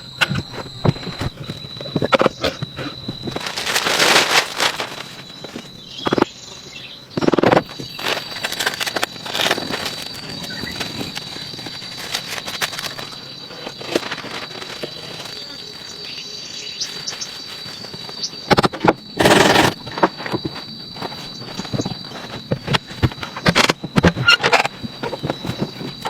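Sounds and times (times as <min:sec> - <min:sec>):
high-pitched insect drone: 0:00.0 - 0:26.0
clicks and rustles: 0:00.1 - 0:06.3, 0:07.2 - 0:16.2, 0:16.8 - 0:26.0.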